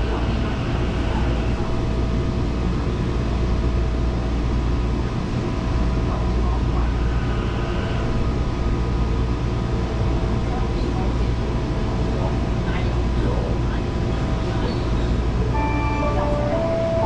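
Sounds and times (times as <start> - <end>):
faint steady whines: 0.0 - 17.0
train low rumble: 0.0 - 17.0.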